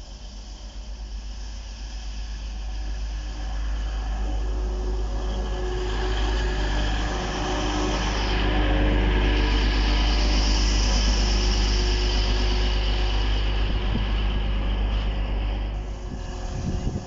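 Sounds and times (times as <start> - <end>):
diesel train rumbling past: 0.0 - 17.0
high hiss: 0.0 - 17.0.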